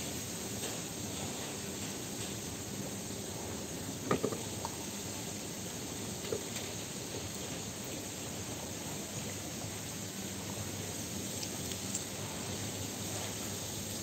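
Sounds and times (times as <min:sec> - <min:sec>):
faint low machine hum: 0:00.0 - 0:14.0
steady hissing background noise: 0:00.0 - 0:14.0.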